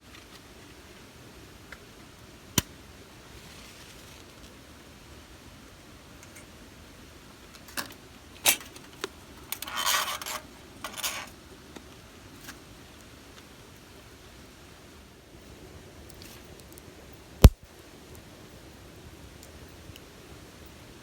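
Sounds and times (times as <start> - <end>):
low steady hiss: 0.0 - 21.0.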